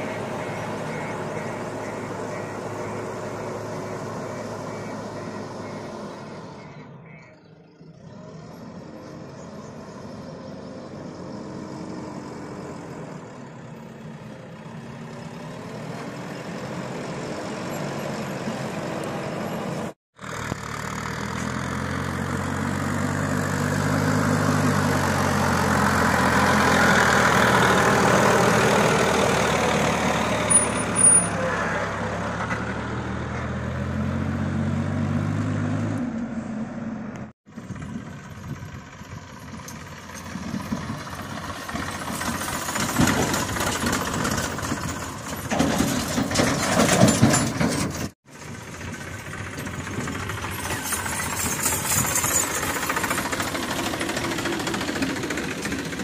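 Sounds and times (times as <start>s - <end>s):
distant backhoe engine: 0.0s - 56.0s
tractor engine driving close: 0.0s - 56.0s.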